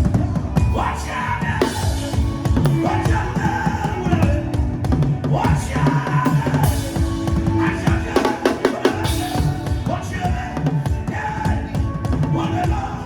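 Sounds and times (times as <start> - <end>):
worship music with fast drums: 0.0 - 13.0.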